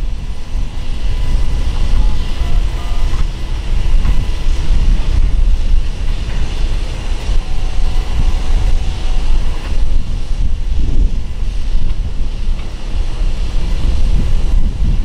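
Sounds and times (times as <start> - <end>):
faint steady tones: 0.0 - 13.4
wind buffeting microphone: 0.0 - 15.0.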